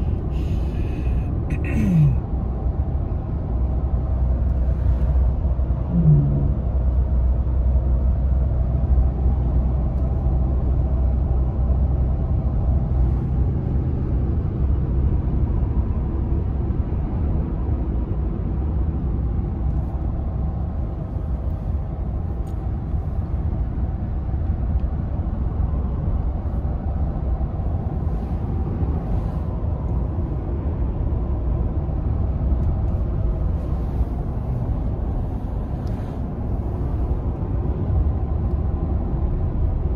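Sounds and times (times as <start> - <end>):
vehicle road and engine rumble: 0.0 - 39.9.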